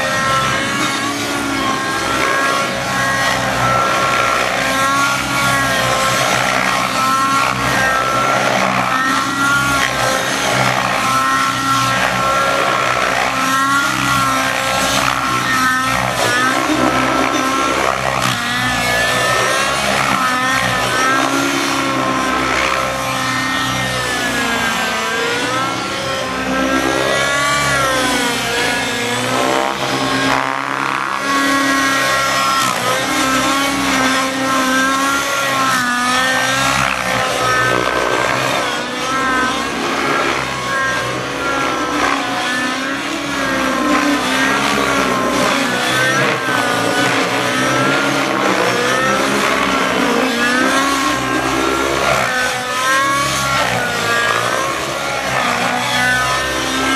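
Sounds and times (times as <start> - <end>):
rc helicopter engine and rotor whine: 0.0 - 56.9.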